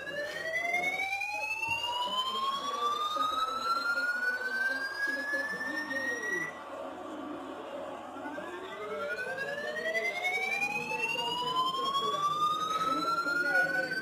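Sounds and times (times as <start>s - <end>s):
rising siren-like tone: 0.0s - 14.0s.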